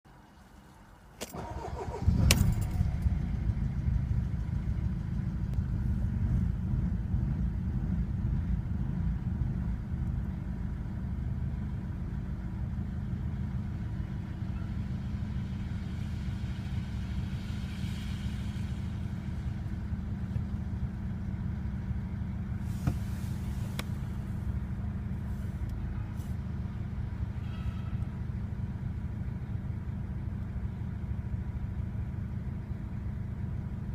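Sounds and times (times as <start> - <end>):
diesel engine starting and idling: 1.0 - 33.9.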